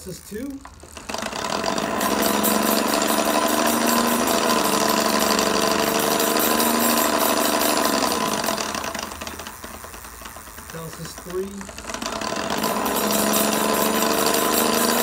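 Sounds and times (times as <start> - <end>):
electric hub motor whirring: 0.0 - 15.0.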